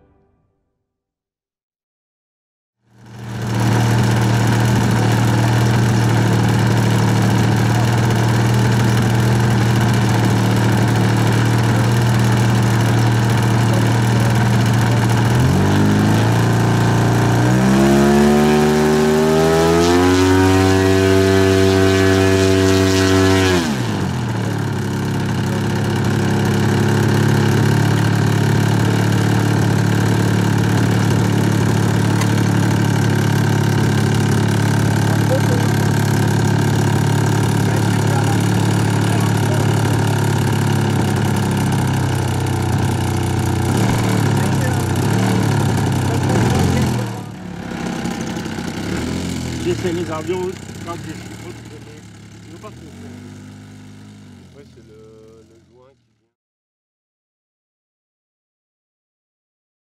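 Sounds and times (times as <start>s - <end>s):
model plane engine revving: 3.0s - 55.8s.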